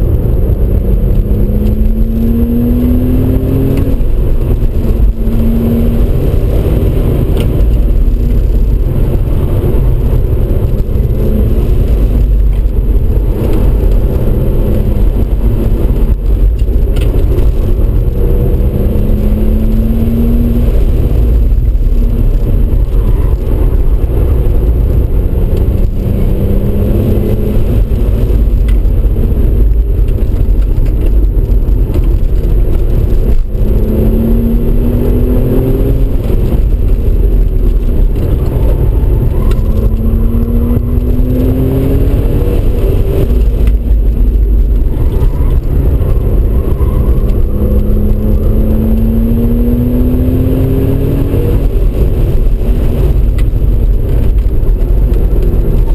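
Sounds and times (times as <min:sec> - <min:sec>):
car engine accelerating: 0:00.0 - 0:55.9
road and wind rumble: 0:00.0 - 0:55.9.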